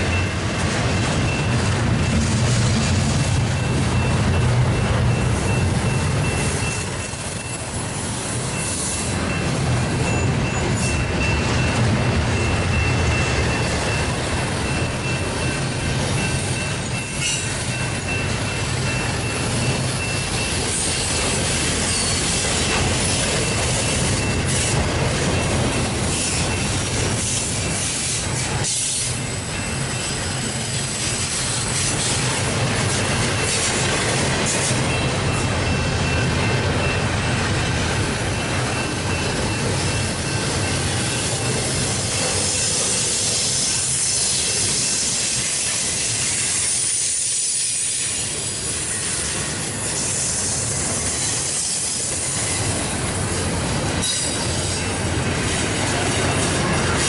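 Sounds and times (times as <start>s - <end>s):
freight cars rumbling and rattling: 0.0s - 47.0s, 47.9s - 57.0s.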